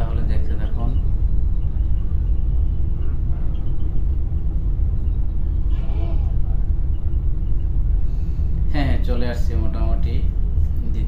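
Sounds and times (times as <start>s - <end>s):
bus engine and tyre rumble: 0.0s - 11.0s.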